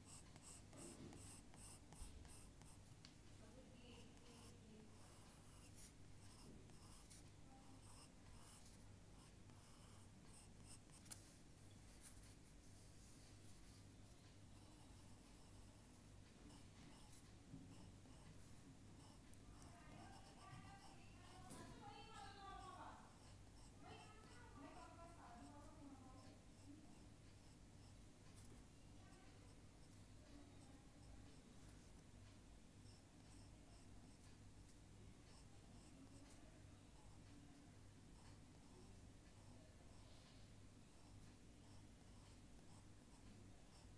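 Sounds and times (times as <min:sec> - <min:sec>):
drawing tool scratching on paper: 0:00.0 - 0:02.9, 0:03.8 - 0:32.0, 0:32.8 - 0:36.4, 0:40.9 - 0:43.9.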